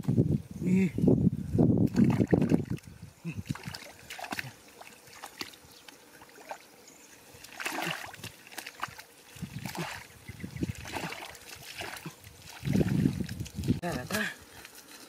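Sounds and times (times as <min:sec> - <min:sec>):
mud squelching: 0:01.8 - 0:15.0
water sloshing and splashing: 0:01.9 - 0:06.7, 0:07.3 - 0:14.8.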